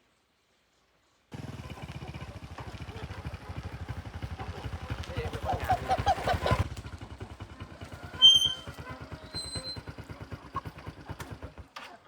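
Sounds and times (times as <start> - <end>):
small motorbike engine idling: 1.3 - 12.0.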